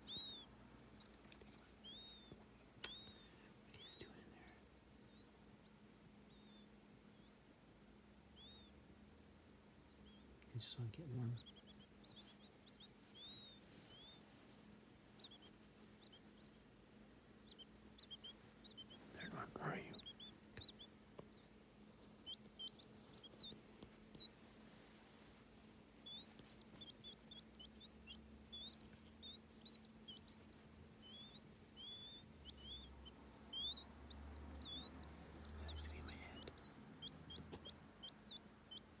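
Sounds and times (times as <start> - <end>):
quail chicks peeping: 0.0 - 39.0.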